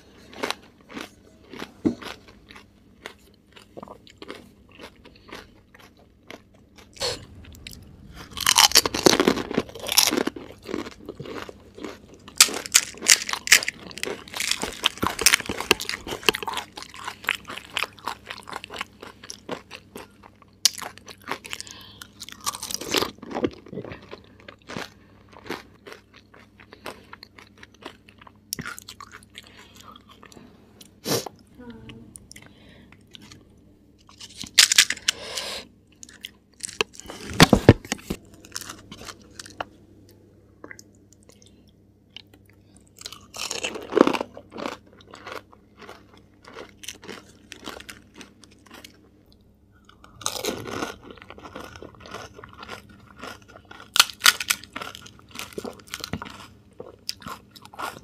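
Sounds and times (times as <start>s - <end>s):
crunching and chewing fried shells: 0.0s - 31.0s, 32.2s - 58.0s.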